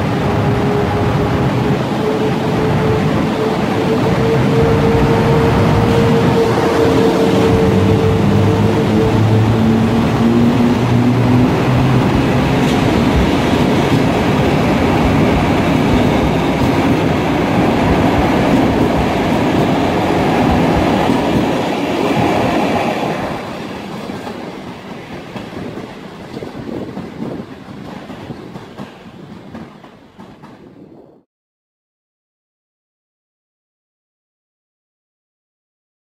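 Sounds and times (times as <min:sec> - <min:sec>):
electric locomotive humming: 0:00.0 - 0:31.0
train wheels rolling past: 0:00.0 - 0:31.0.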